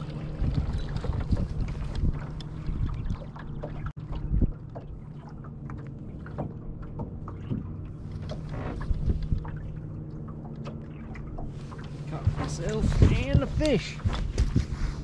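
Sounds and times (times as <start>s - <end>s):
small water splashes: 0.0s - 14.4s.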